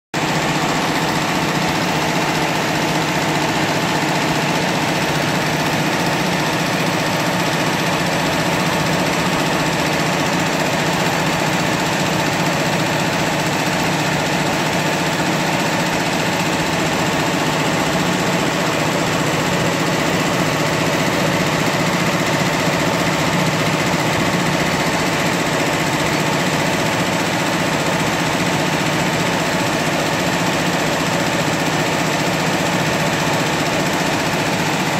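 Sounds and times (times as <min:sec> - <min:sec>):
embroidery machine rattling: 0:00.2 - 0:34.9.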